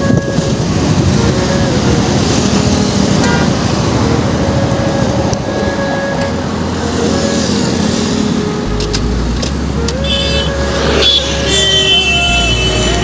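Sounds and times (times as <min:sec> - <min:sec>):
horn-like tone: 0:00.0 - 0:13.0
traffic rumble: 0:00.0 - 0:13.0.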